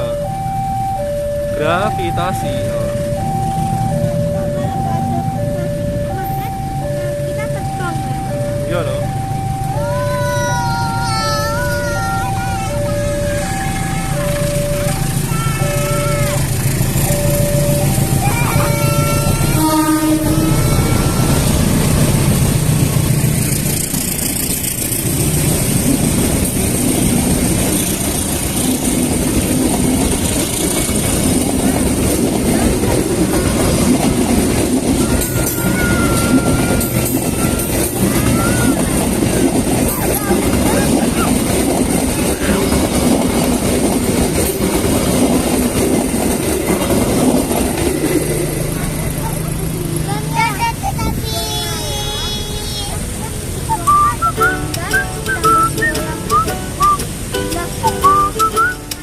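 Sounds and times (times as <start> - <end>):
train wheels rumbling on rails: 0.0 - 59.0
vehicle engine running: 11.6 - 59.0.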